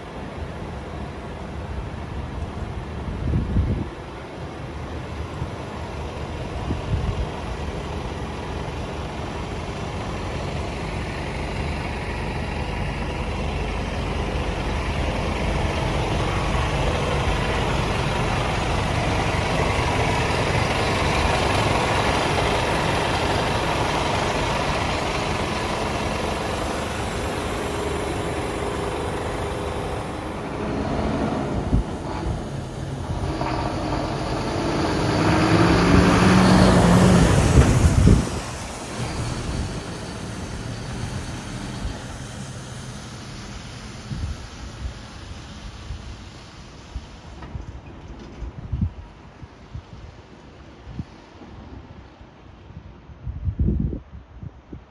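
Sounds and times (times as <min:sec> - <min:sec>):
diesel truck engine rumbling: 0:00.0 - 0:48.7.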